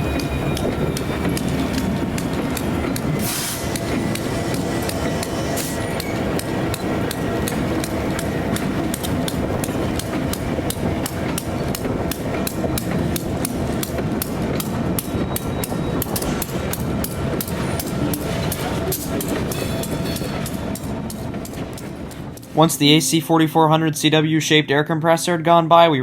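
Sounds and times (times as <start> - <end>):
train wheels clicking on rail joints: 0.0 - 23.9
freight train rumbling past: 0.0 - 25.4.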